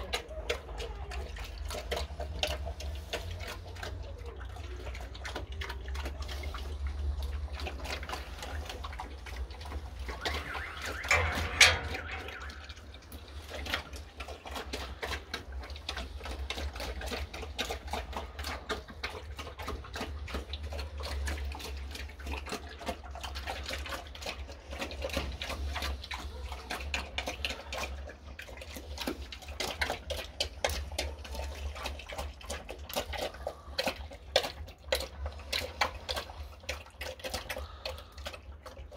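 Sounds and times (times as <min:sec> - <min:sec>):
pig slurping and chomping: 0:00.0 - 0:38.9.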